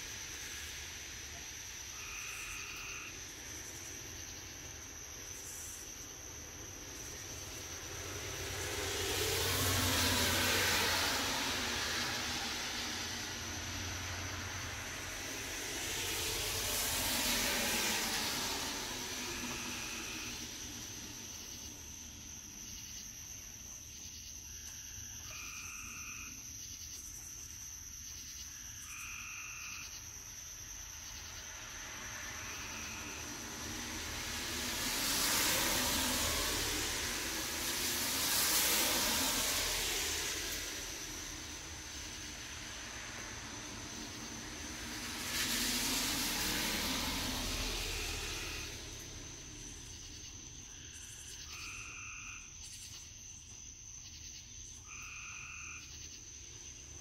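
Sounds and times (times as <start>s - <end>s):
cars passing: 0.0s - 24.5s, 29.9s - 52.5s.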